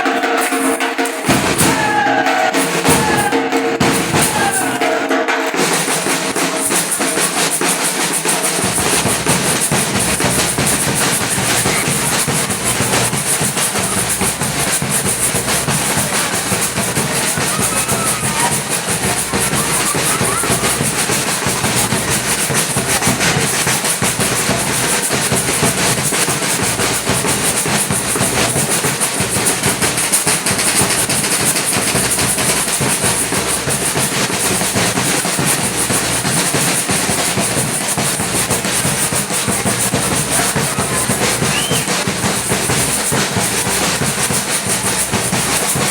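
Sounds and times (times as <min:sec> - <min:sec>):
high shimmer over drums: 0:00.0 - 0:45.9
samba percussion drumming: 0:00.0 - 0:45.9.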